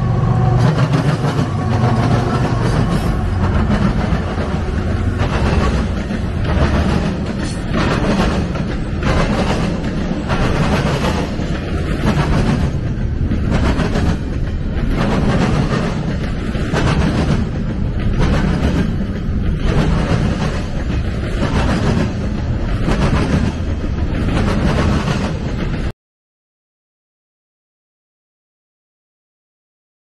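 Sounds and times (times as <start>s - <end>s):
train low rumble: 0.0s - 25.9s
train wheels clattering on rails: 0.0s - 25.9s.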